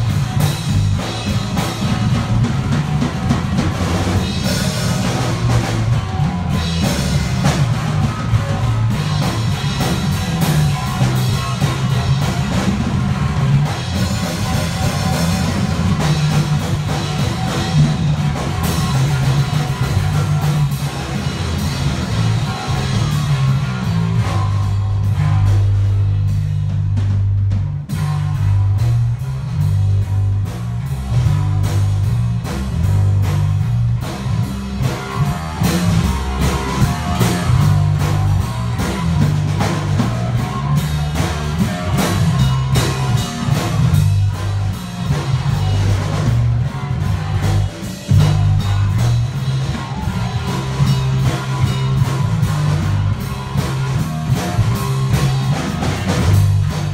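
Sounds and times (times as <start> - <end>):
busy drumming: 0.0 - 56.9
electric bass guitar: 0.0 - 56.9.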